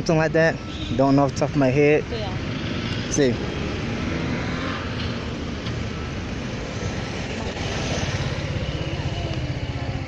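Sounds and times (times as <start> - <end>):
vehicles driving past: 0.0 - 10.0.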